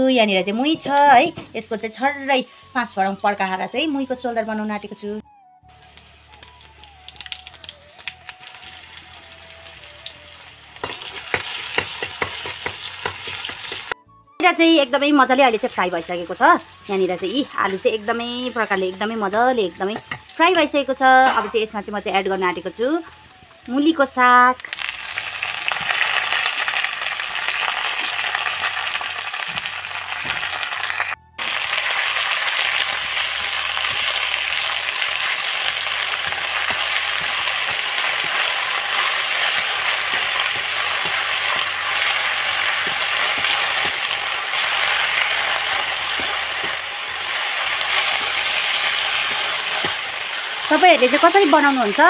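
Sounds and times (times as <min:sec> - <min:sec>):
vegetables sizzling in oil: 0:05.7 - 0:14.0, 0:14.6 - 0:52.0.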